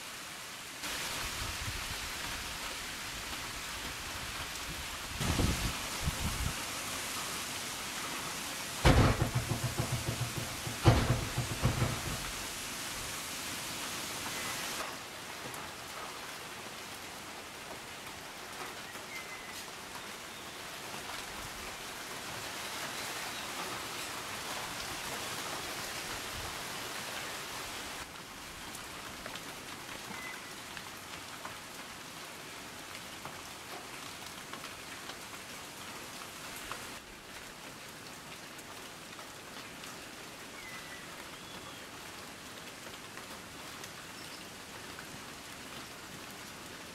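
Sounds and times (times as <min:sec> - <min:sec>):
heavy rain on foliage: 0:00.0 - 0:46.9.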